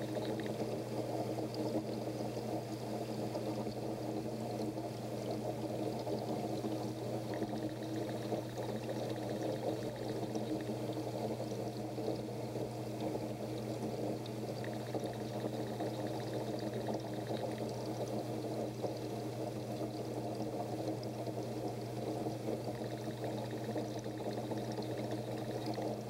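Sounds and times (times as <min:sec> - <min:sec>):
aquarium water bubbling: 0:00.0 - 0:26.0.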